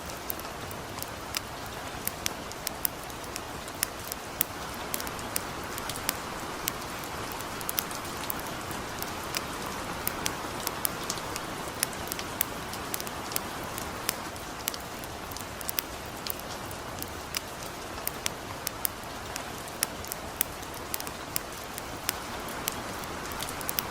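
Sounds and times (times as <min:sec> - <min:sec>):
campfire crackling: 0:00.0 - 0:23.9
light rain falling: 0:00.0 - 0:23.9.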